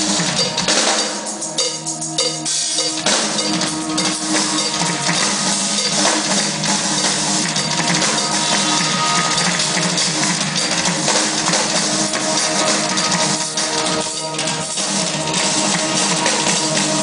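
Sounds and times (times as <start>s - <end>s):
backing track sustained notes: 0.0s - 17.0s
drum kit played live: 0.0s - 17.0s.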